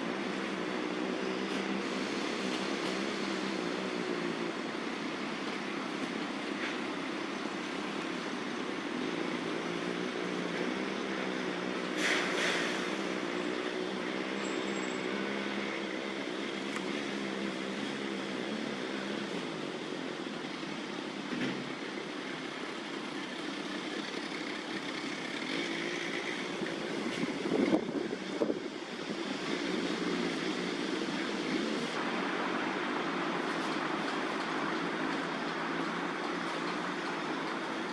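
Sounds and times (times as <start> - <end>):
city traffic hum: 0.0 - 37.9.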